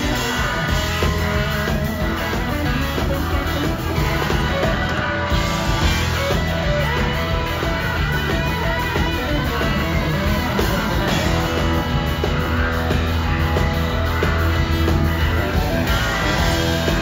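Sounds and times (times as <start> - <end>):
lead guitar: 0.0 - 17.0
rock band playing: 0.0 - 17.0.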